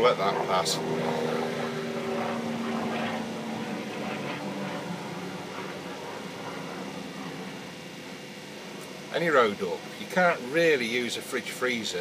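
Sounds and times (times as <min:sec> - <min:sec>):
aircraft droning overhead: 0:00.0 - 0:12.0.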